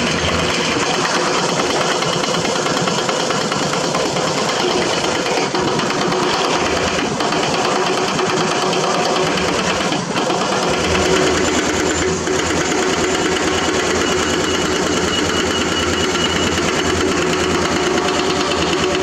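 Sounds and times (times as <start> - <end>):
excavator diesel engines: 0.0 - 19.0.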